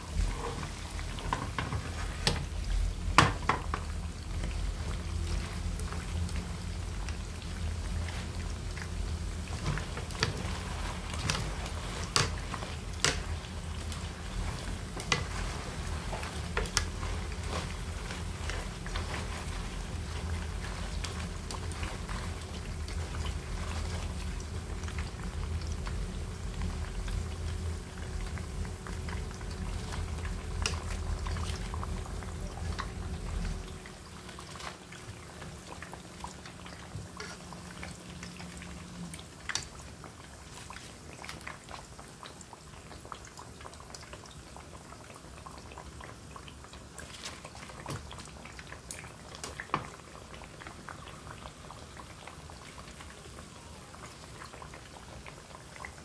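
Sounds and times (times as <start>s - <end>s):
deep-frying sizzle: 0.0s - 56.0s
oil crackles and clicks: 0.1s - 56.0s.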